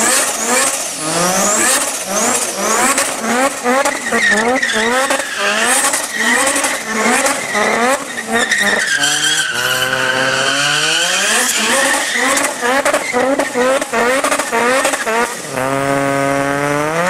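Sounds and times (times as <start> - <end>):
high tyre squeal: 0.0 - 15.7
car engine revving hard: 0.0 - 17.0.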